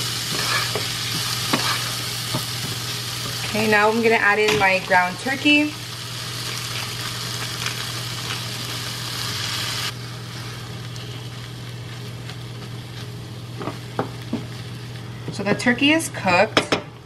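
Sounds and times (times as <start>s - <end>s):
meat sizzling in a frying pan: 0.0s - 16.0s
steady low hum: 0.0s - 17.0s.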